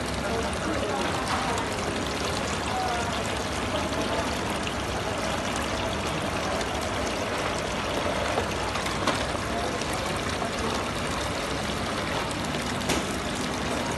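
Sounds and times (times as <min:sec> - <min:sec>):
fountain water splashing into pool: 0:00.0 - 0:13.9.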